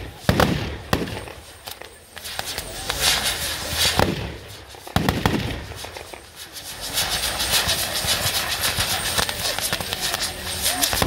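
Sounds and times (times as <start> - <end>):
firecrackers banging and crackling: 0.0 - 11.0.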